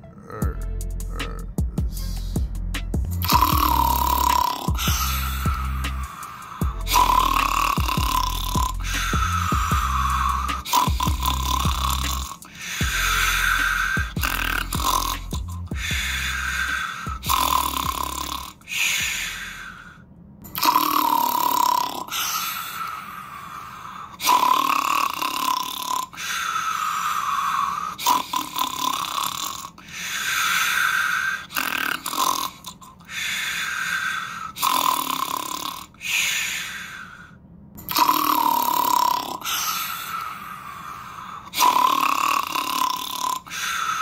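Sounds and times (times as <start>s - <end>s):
person snoring: 0.0s - 44.0s.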